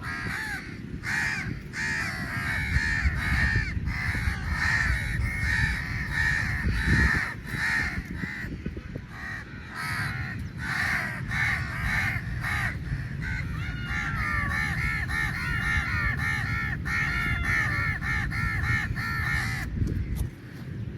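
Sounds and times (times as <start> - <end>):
flock of crows cawing: 0.0 - 20.2.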